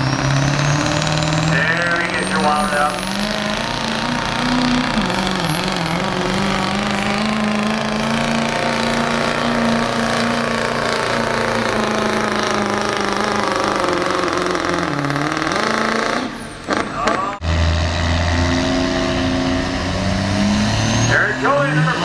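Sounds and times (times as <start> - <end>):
diesel truck engine at high revs: 0.0 - 22.0.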